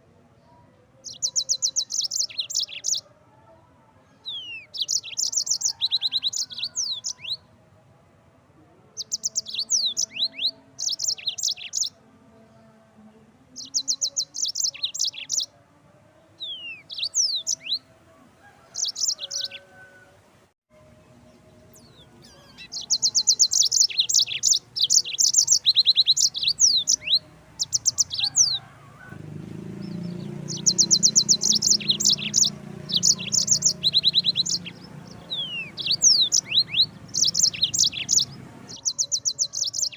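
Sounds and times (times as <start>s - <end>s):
canary singing trills: 1.0s - 3.2s, 4.2s - 7.5s, 8.9s - 12.6s, 13.5s - 15.6s, 16.3s - 20.0s, 21.4s - 39.9s.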